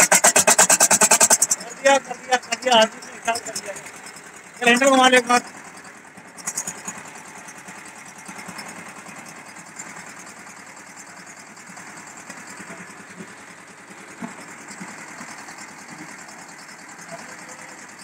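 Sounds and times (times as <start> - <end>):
diesel engine clattering: 0.0 - 18.0.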